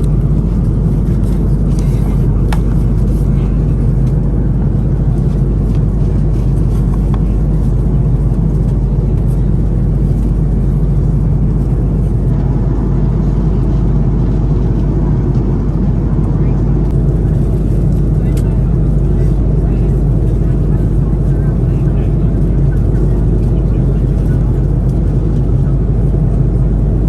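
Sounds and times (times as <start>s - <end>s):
airplane cabin engine drone: 0.0s - 27.0s.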